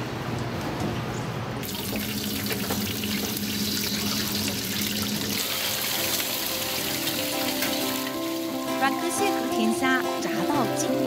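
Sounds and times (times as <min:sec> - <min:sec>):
oil sizzling and crackling: 0:01.6 - 0:11.0.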